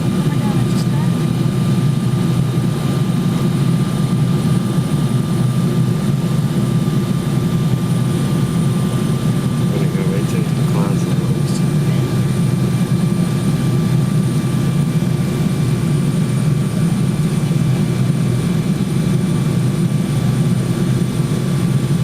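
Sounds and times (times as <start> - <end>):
faint steady whines: 0.0 - 22.0
jet engines low rumble: 0.0 - 22.0.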